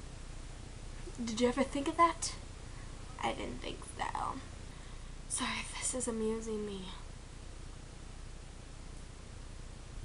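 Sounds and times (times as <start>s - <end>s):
steady recording hiss: 0.0s - 10.0s.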